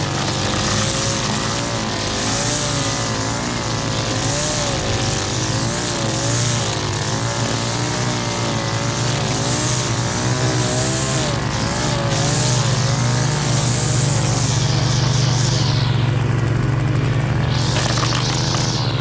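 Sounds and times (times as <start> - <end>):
hiss of cut grass: 0.0 - 19.0
string trimmer engine: 0.0 - 19.0.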